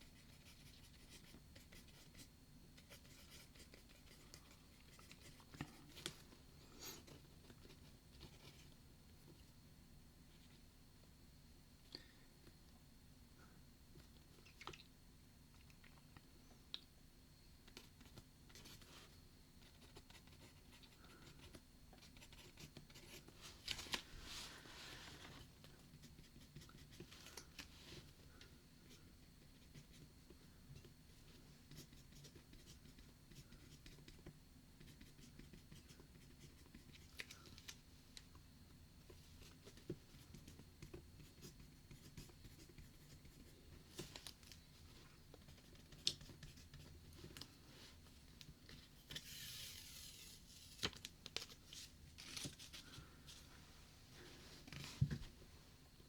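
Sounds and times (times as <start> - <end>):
low room hum: 0.0 - 56.0.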